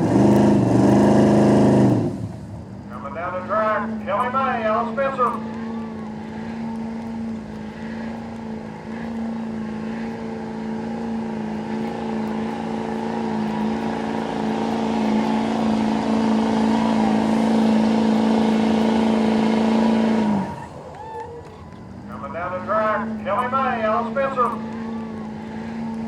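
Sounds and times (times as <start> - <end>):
truck engine at high revs: 0.0 - 26.0.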